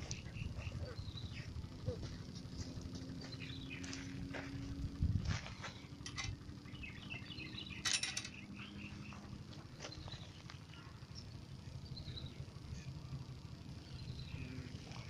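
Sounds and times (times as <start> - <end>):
birds chirping: 0.0 - 5.0, 5.6 - 15.0
steady low rumble: 0.0 - 15.0.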